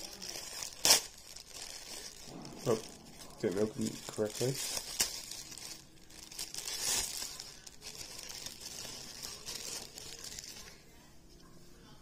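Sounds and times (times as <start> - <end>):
package being torn open: 0.0 - 10.8
wrapping crinkling: 0.0 - 10.9.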